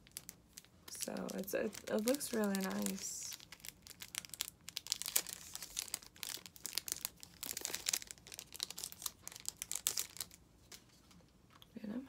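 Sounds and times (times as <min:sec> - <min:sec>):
plastic sleeve crinkling: 0:00.0 - 0:11.6.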